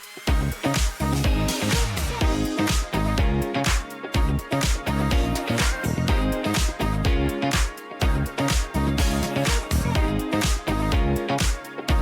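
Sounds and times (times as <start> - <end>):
disco-funk music: 0.0 - 12.0.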